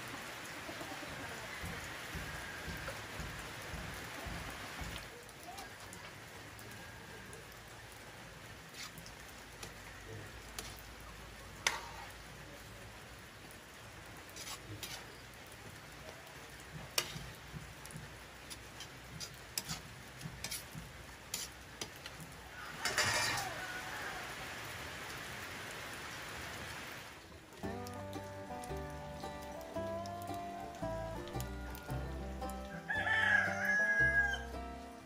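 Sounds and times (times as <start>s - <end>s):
broth simmering in wok: 0.0s - 35.0s.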